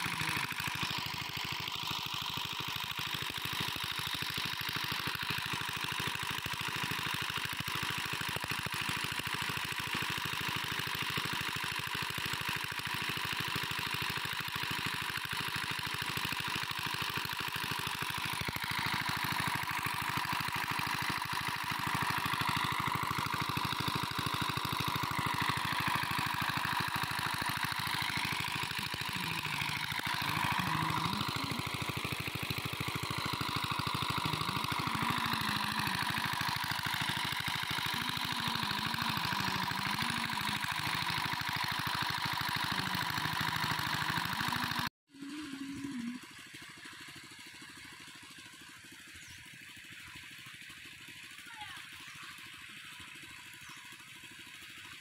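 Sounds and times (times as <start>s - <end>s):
water pump engine running: 0.0s - 55.0s.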